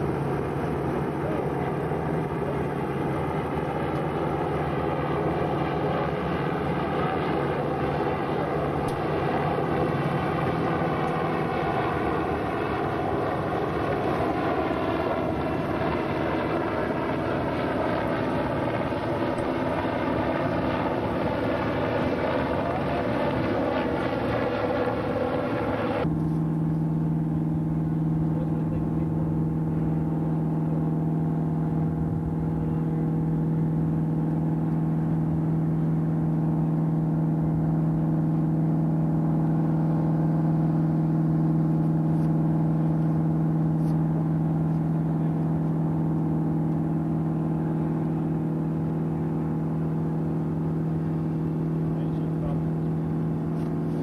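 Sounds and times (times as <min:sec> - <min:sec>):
boat engine droning: 0:00.0 - 0:54.0
helicopter overhead: 0:00.0 - 0:54.0.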